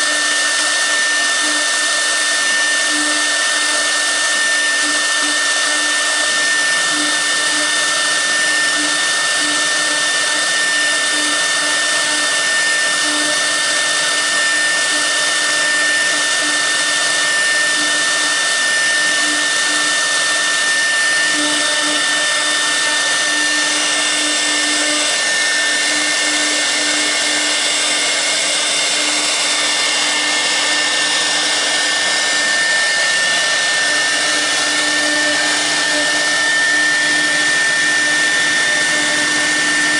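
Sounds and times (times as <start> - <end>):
cnc spindle high whine: 0.0 - 39.9
v-bit carving workpiece: 0.0 - 39.9.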